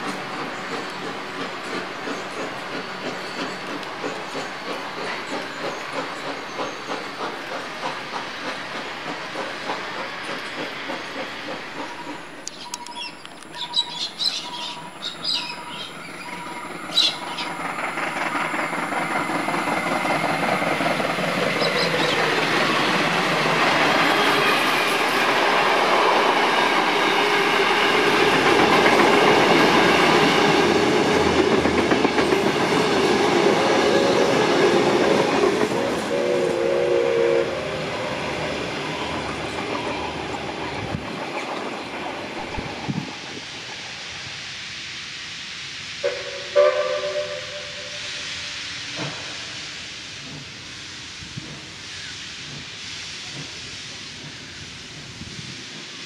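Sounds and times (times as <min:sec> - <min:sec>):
train clickety-clack on rails: 0:00.0 - 0:44.6, 0:46.0 - 0:56.0.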